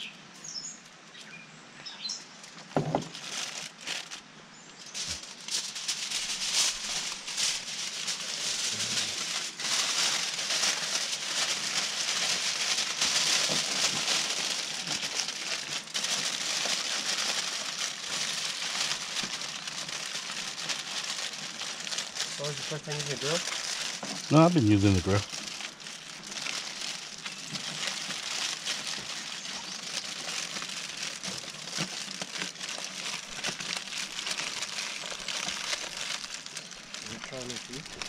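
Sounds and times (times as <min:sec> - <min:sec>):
aluminium foil crinkling: 0:02.4 - 0:38.0.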